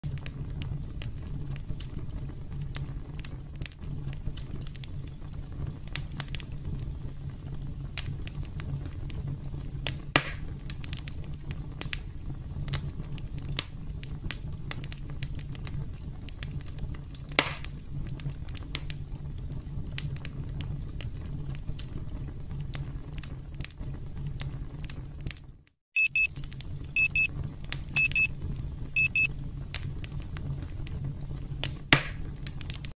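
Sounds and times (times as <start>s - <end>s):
sharp fire pops: 0.0s - 25.5s, 26.3s - 32.9s
wood campfire crackling: 0.0s - 32.9s.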